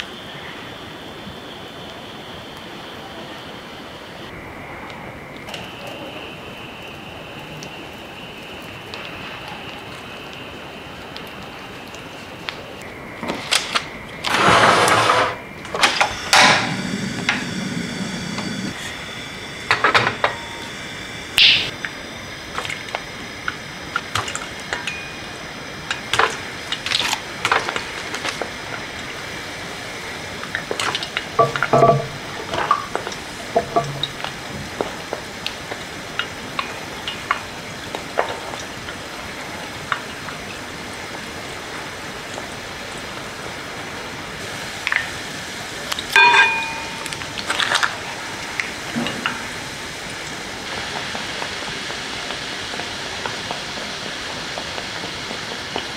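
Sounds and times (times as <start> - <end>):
food deep-frying in hot oil: 0.0 - 14.8, 15.4 - 55.9.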